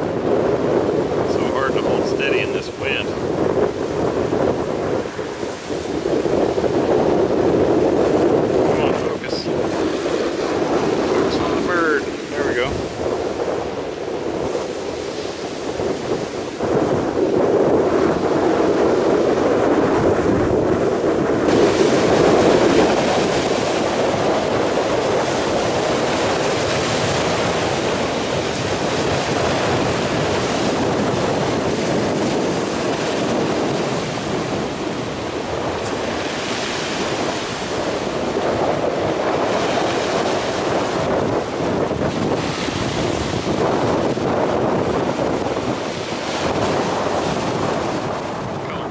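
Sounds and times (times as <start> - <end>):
surf on pebble beach: 0.0 - 48.9
wind buffeting microphone: 0.0 - 48.9.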